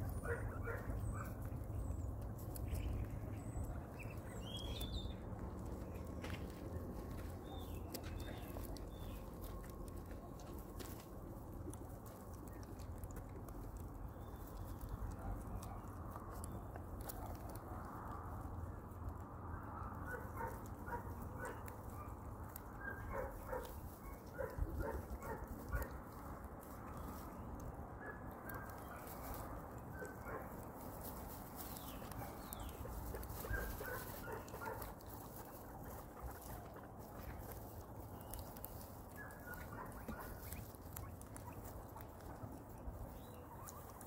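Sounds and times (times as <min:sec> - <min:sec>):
guinea pigs squeaking: 0:00.0 - 0:44.0
low steady rumble: 0:00.0 - 0:44.0.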